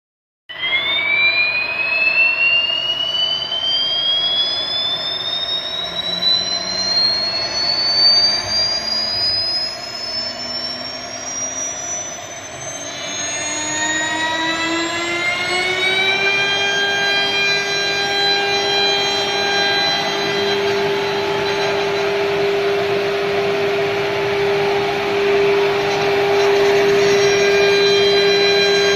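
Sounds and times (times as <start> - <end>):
lower whine: 0.5 - 28.9
router spindle high whine: 0.5 - 28.9.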